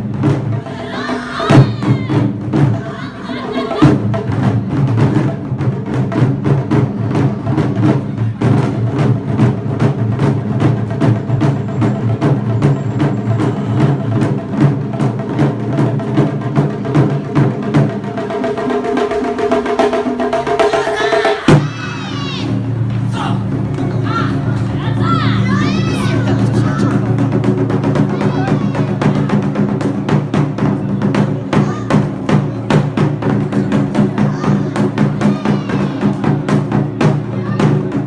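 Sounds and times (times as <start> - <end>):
fast percussion beat: 0.0 - 38.0.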